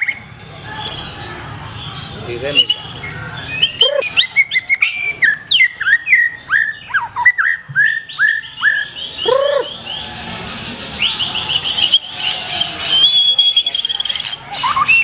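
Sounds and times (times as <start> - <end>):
bird singing whistled notes: 2.5 - 15.0.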